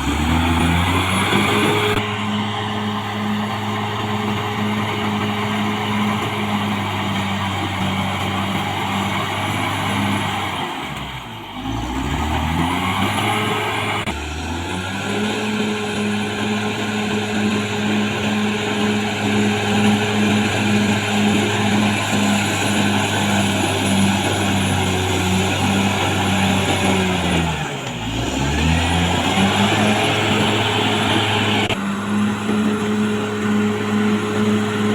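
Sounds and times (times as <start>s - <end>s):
bulldozer diesel engine under load: 0.0s - 34.9s.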